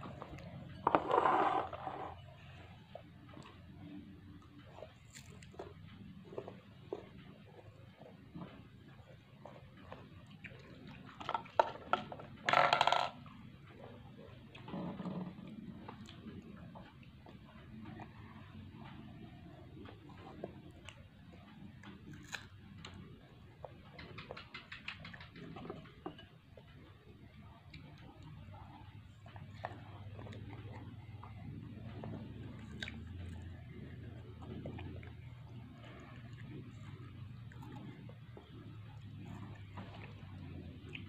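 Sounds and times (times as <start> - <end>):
people chewing soft fruit: 0.0 - 12.4, 13.2 - 41.0
low steady hum: 0.0 - 41.0.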